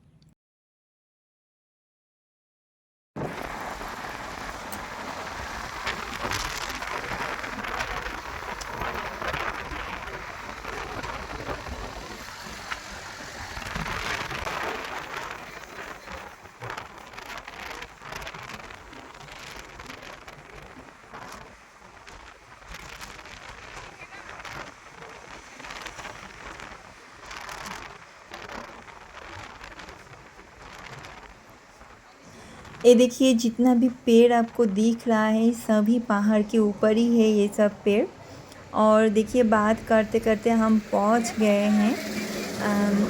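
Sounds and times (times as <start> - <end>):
car driving on road: 3.2 - 32.8, 37.1 - 43.0.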